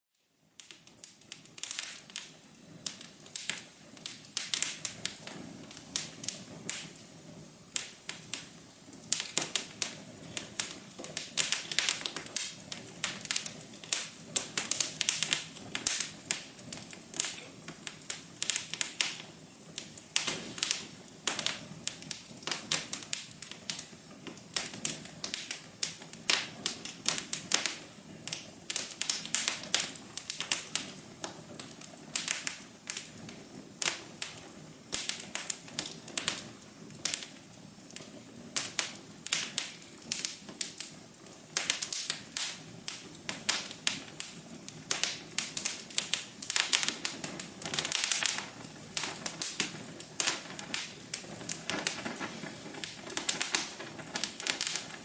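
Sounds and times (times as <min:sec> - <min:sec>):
wood fire crackling: 0:00.1 - 0:55.0
low hum of burning fire: 0:00.2 - 0:55.0.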